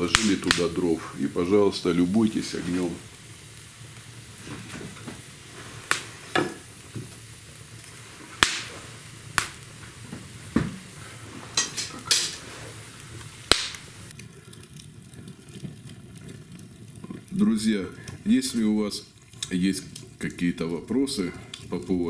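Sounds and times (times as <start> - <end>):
sharp pops of fire: 0.0 - 21.9
firewood crackling: 0.0 - 22.0
low steady fire hiss: 0.0 - 22.0.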